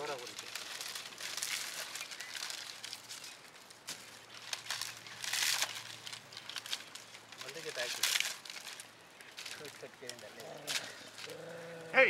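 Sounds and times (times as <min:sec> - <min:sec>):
dry fronds crinkling: 0:00.0 - 0:12.0
fire crackling and popping: 0:00.0 - 0:12.0.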